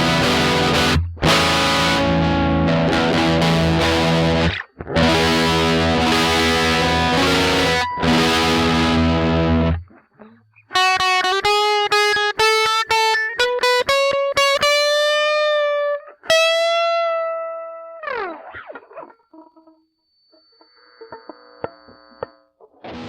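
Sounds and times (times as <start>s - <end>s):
distorted electric guitar: 0.0s - 23.0s.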